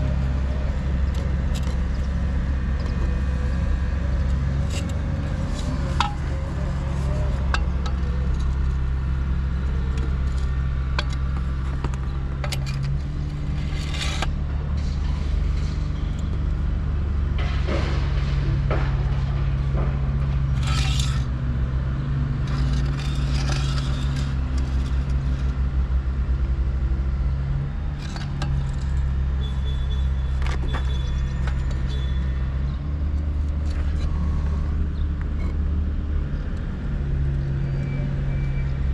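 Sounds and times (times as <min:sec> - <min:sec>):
engine running with low rumble: 0:00.0 - 0:38.9.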